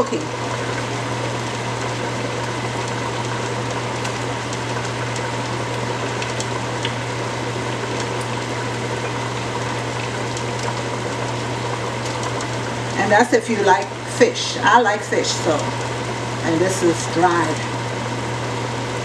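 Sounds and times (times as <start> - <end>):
pot boiling and bubbling: 0.0 - 19.0.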